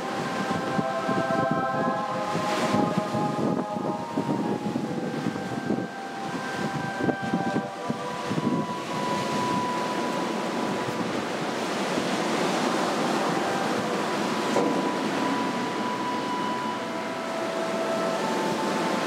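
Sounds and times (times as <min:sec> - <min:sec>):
sea surf breaking on sand: 0:00.0 - 0:19.0
strong wind: 0:00.0 - 0:19.0.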